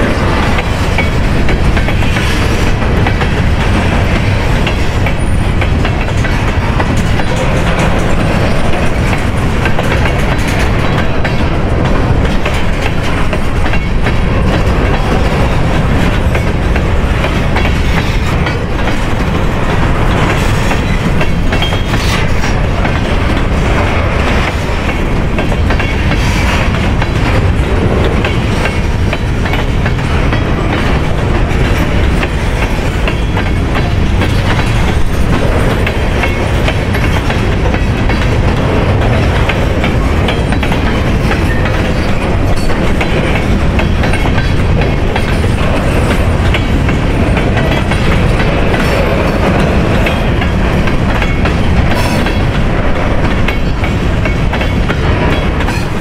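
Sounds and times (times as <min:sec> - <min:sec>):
freight train rumbling past: 0:00.0 - 0:56.0
wheels clicking over rail joints: 0:00.0 - 0:56.0.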